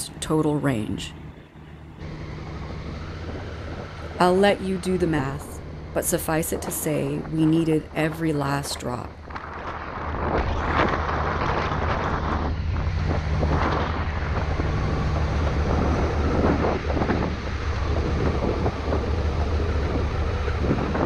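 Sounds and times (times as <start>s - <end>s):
wind buffeting microphone: 0.0s - 21.0s
motorcycle engine running: 1.5s - 8.1s, 9.1s - 21.0s.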